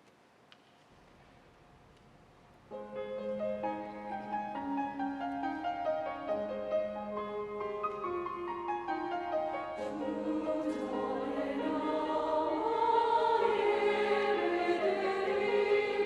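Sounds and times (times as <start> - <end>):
piano accompaniment: 2.7 - 16.0
church choir singing: 2.8 - 16.0.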